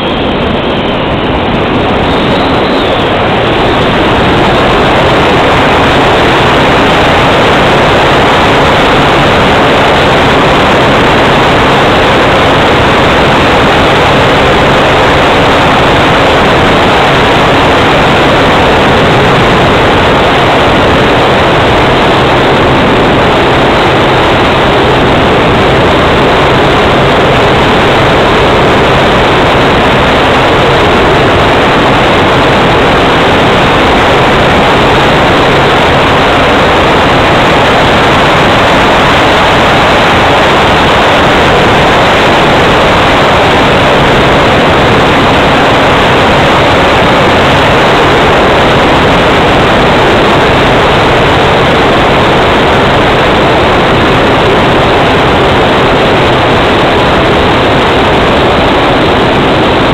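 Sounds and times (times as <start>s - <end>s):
loud rush of airflow: 0.0s - 59.9s.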